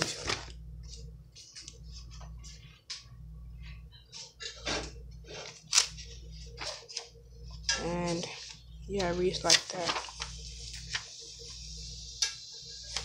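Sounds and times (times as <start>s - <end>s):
pages rustling: 0.0s - 3.0s, 4.1s - 11.6s
steady low hum: 0.0s - 13.0s.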